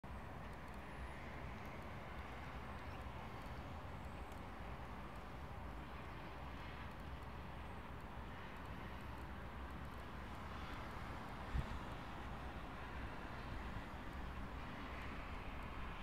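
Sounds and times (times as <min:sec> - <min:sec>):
city background hum: 0:00.0 - 0:16.0.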